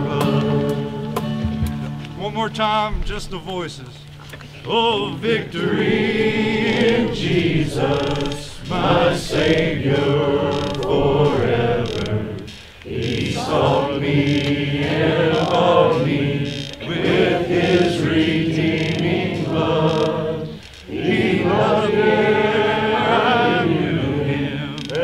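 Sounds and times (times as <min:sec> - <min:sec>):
congregation singing a hymn: 0:00.0 - 0:03.9, 0:04.5 - 0:25.0.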